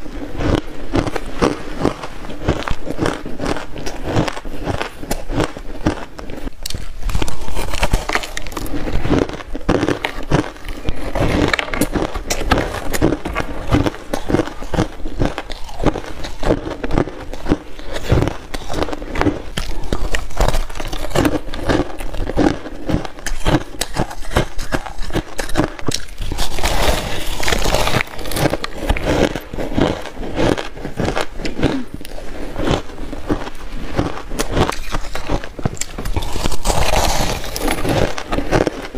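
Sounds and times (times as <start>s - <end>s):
crunching shaved ice: 0.0s - 38.9s.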